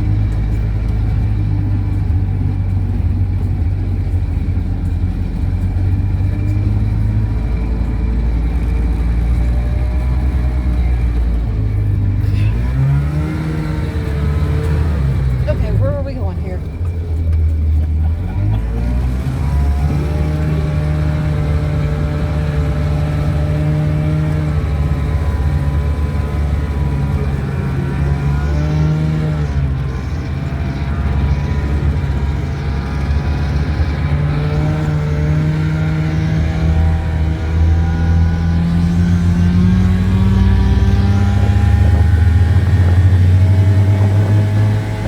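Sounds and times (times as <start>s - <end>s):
small truck engine running: 0.0s - 45.0s.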